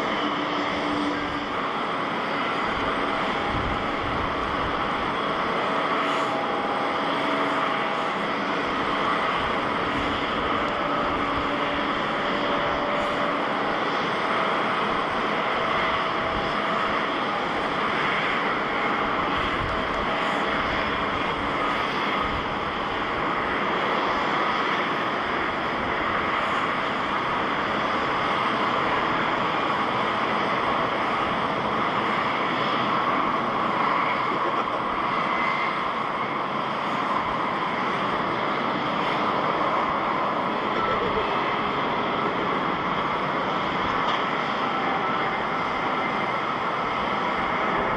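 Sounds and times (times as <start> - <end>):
jet engines running: 0.0 - 47.9.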